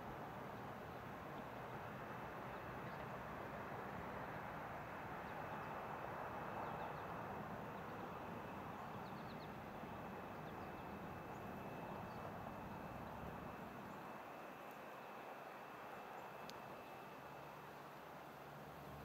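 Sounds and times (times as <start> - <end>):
faint background noise: 0.0 - 19.0.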